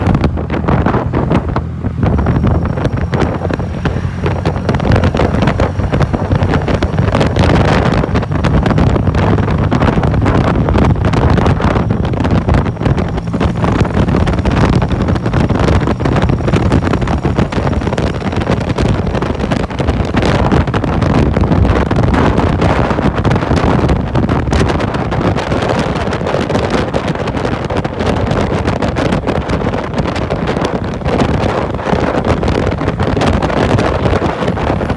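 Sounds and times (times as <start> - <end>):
motorcycle engine cruising: 0.0 - 34.9
wind rushing over microphone: 0.0 - 34.9.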